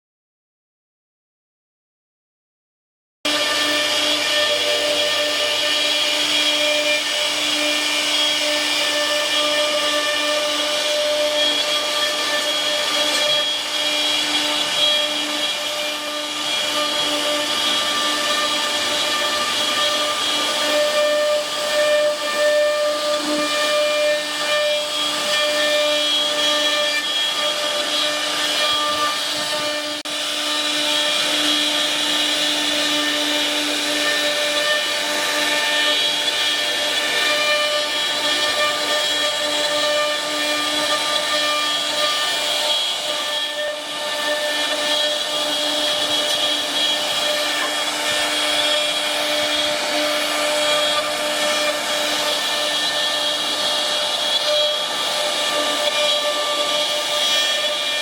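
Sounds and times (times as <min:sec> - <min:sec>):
router spindle cutting wood: 0:03.3 - 0:58.0.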